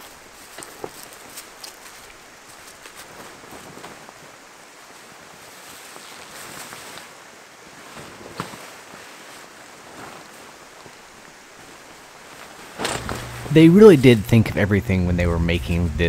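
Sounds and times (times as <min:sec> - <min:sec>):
tent fabric rustling: 0:00.0 - 0:14.4
steady rushing outdoor noise: 0:00.0 - 0:16.0.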